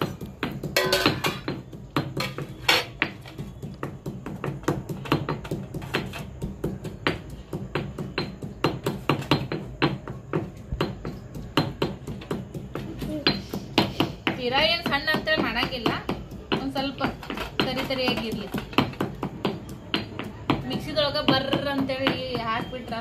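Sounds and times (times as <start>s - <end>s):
stone pestle pounding in mortar: 0.0s - 23.0s.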